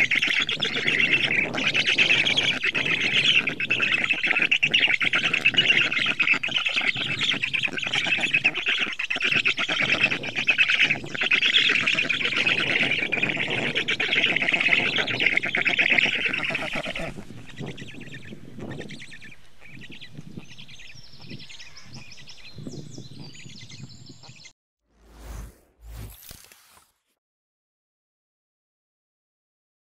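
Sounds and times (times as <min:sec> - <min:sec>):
birds chattering: 0:00.0 - 0:24.5.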